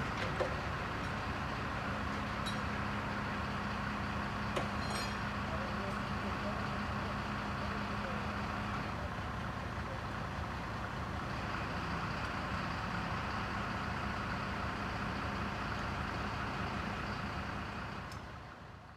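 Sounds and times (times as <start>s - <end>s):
crane engine running: 0.0s - 18.9s.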